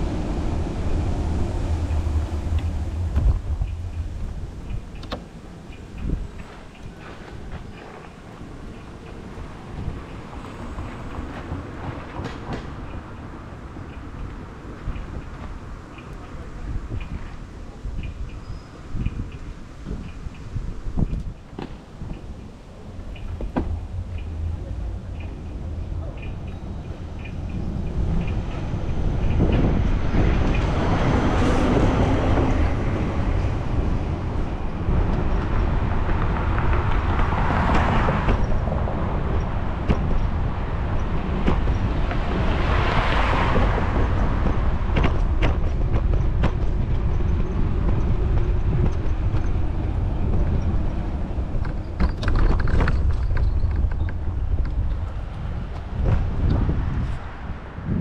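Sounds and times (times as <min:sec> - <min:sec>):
city traffic noise: 0:00.0 - 0:58.0
vehicles passing: 0:00.0 - 0:58.0
wind rushing over microphone: 0:00.0 - 0:58.0.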